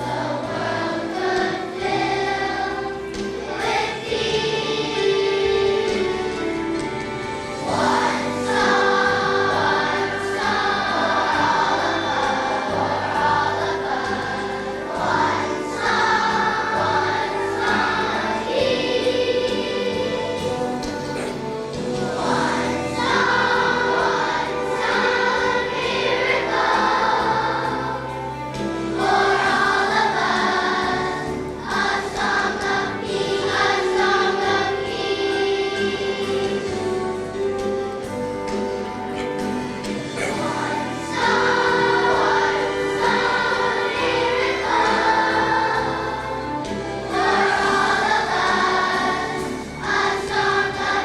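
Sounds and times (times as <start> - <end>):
children's choir singing: 0.0 - 51.0
musical accompaniment: 0.0 - 51.0.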